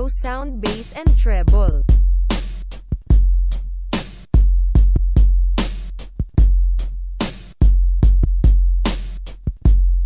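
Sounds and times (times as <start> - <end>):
drum machine beat: 0.0 - 10.0.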